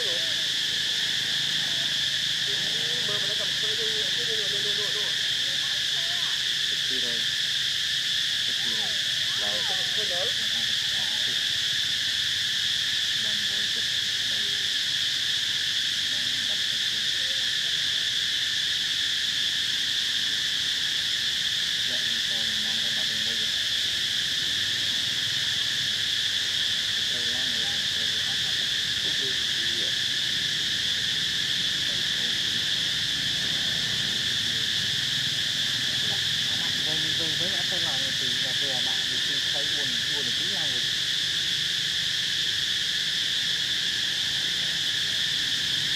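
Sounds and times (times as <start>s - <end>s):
high-pitched insect chorus buzzing: 0.0s - 45.9s.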